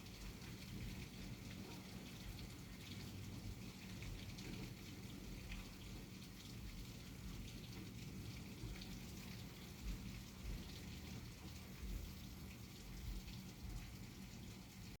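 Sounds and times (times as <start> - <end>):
heavy rain falling: 0.1 - 15.0.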